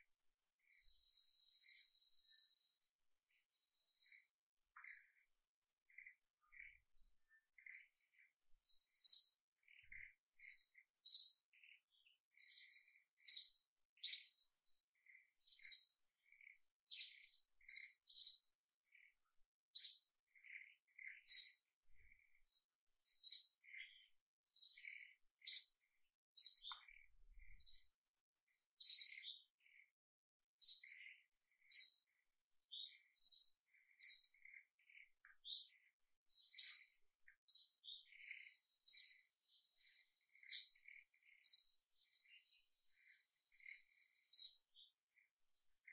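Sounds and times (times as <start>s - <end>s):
bird chirping: 0.0s - 45.9s
faint lower bird calls: 0.0s - 45.9s.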